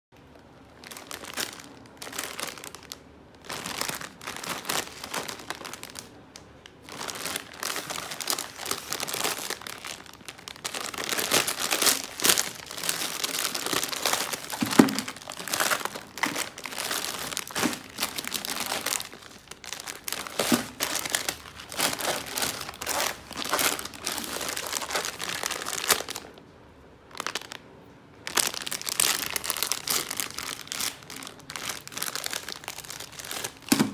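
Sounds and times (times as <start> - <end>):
plastic packaging crinkling: 0.2 - 26.5, 27.1 - 33.9.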